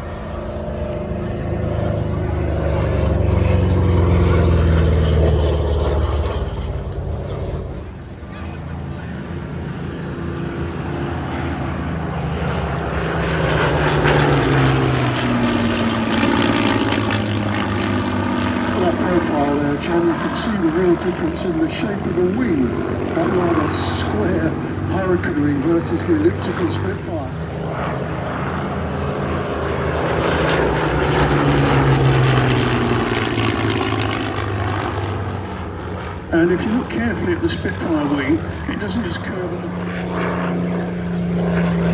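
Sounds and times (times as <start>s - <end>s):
propeller aircraft flying past: 0.0s - 41.9s.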